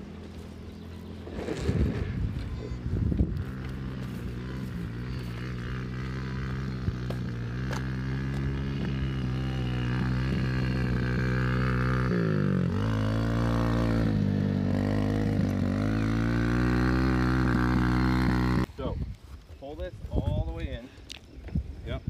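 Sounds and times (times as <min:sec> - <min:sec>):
dirt bike engine under throttle: 0:00.0 - 0:18.8.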